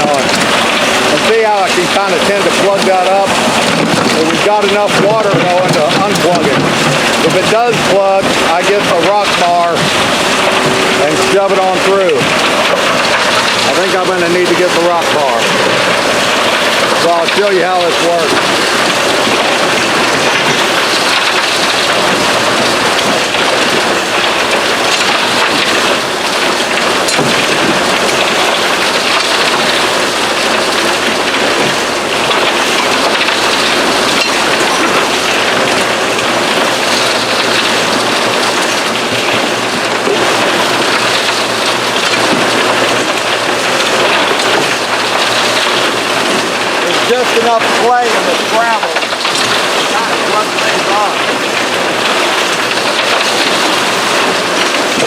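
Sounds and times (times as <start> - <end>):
water spraying and rushing: 0.0 - 55.0.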